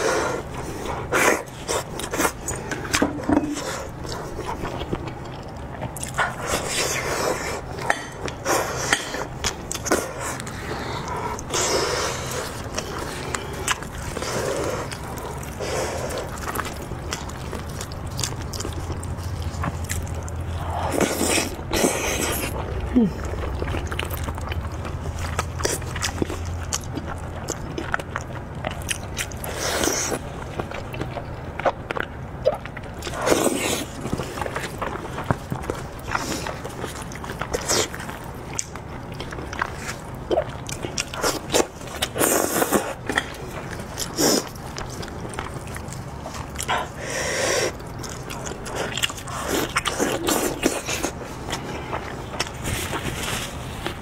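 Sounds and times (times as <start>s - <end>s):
person chewing and biting meat: 0.0s - 54.0s.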